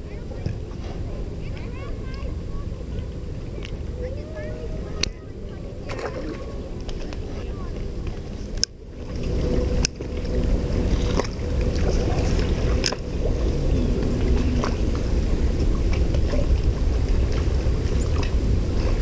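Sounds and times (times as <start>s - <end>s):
water lapping: 0.0s - 19.0s
wind rumbling on microphone: 0.0s - 19.0s.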